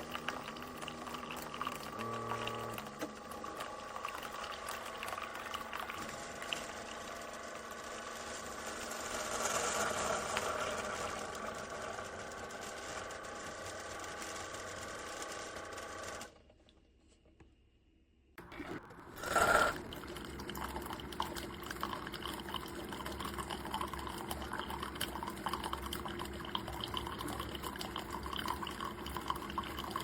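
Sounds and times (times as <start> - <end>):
coffee maker pump humming: 0.0 - 16.3, 18.4 - 30.0.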